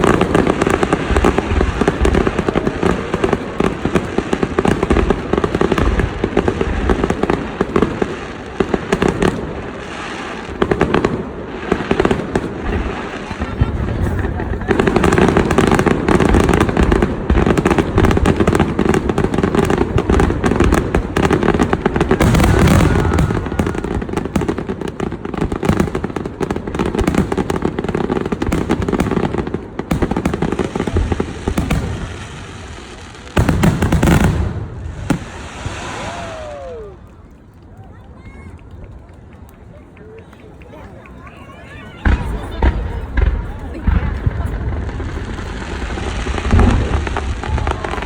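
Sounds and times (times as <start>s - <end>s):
fireworks crackling: 0.0s - 48.0s.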